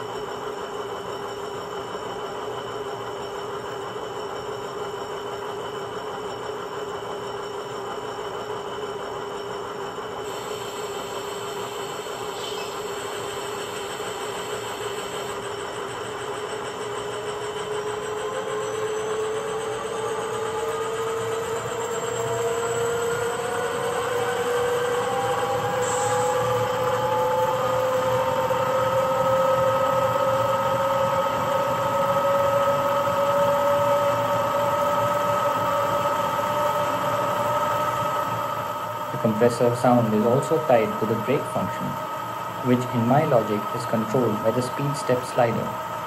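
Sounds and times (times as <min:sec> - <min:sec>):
diesel locomotive engine through small speaker: 0:00.0 - 0:46.0.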